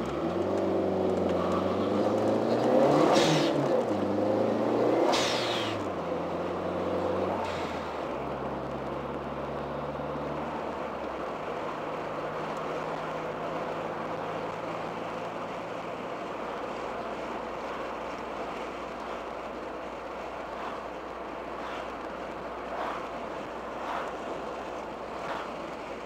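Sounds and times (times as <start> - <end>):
car engine pulling: 0.0 - 26.0.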